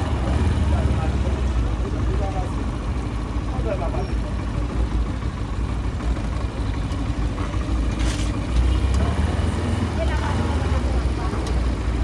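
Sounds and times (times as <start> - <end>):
city street traffic: 0.0 - 12.0
motorcycle engine rumbling: 0.0 - 12.0.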